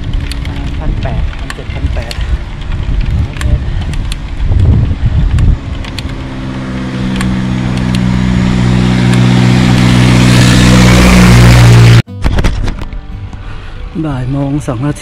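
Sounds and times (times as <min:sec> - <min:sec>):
vehicle engine hum: 0:00.0 - 0:12.1.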